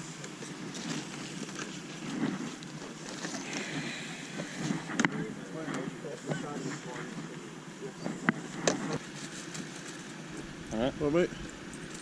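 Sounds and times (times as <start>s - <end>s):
distant voices: 0.0s - 12.0s.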